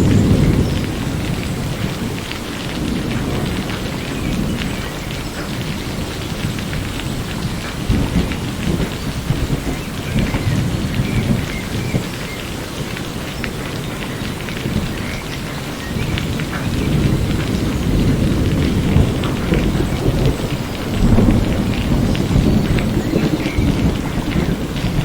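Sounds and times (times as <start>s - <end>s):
low rumble of thunder: 0.0s - 25.0s
steady rain falling: 0.0s - 25.0s.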